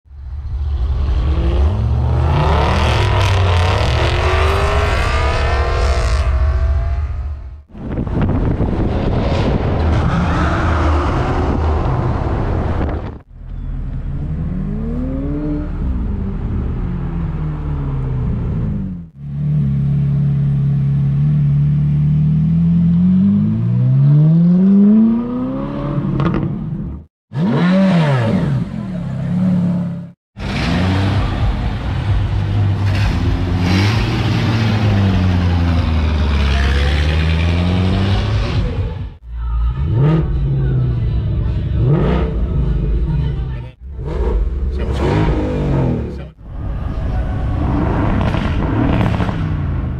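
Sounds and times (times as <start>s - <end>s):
car engines revving and accelerating: 0.1s - 49.9s.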